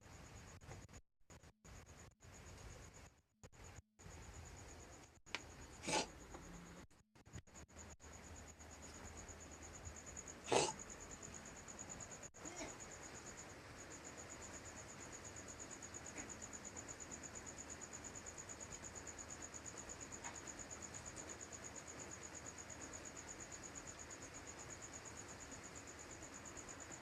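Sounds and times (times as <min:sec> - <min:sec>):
cricket trilling: 0:00.0 - 0:27.0.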